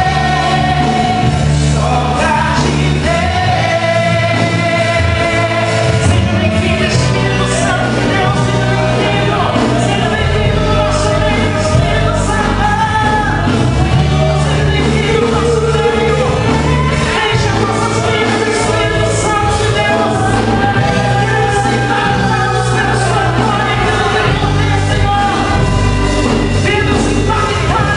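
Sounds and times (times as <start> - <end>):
gospel band playing: 0.0 - 27.9
people singing: 0.0 - 27.9.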